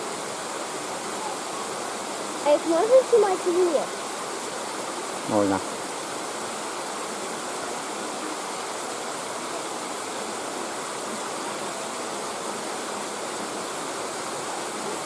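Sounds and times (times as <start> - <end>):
waterfall roar: 0.0 - 15.0.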